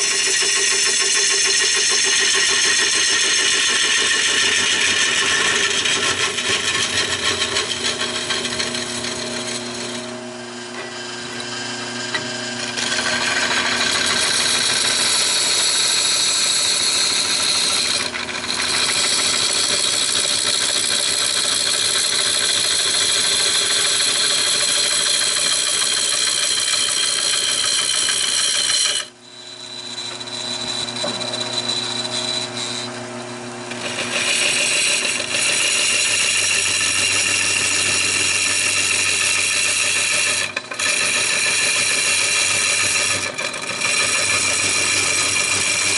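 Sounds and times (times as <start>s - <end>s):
lathe motor hum: 0.0s - 45.9s
lathe tool scraping wood: 0.0s - 45.9s.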